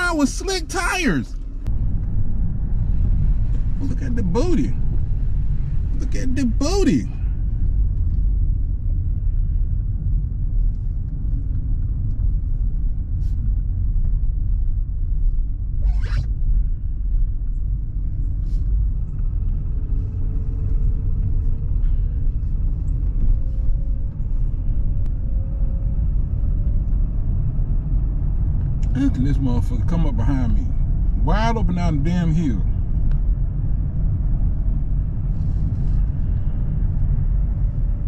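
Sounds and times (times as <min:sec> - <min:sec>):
vehicle engine and tyres rumbling: 0:00.0 - 0:38.0.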